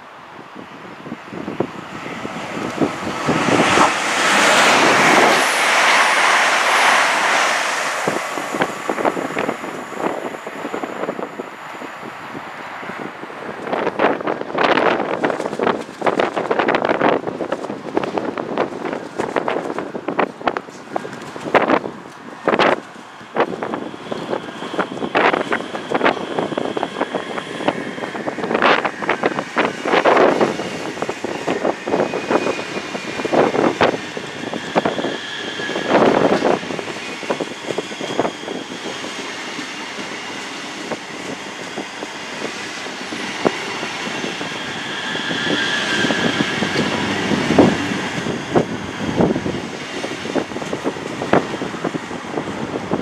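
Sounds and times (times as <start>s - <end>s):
train high whine: 0.0s - 53.0s.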